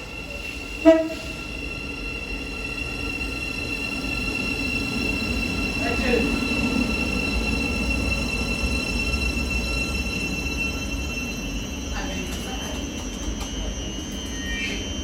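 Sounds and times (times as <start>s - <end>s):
high-pitched train whine: 0.0s - 15.0s
train rumbling by: 0.0s - 15.0s.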